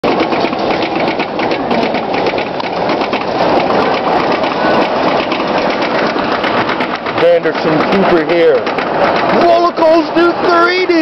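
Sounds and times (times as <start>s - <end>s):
roller coaster mechanical rattle: 0.0s - 11.0s.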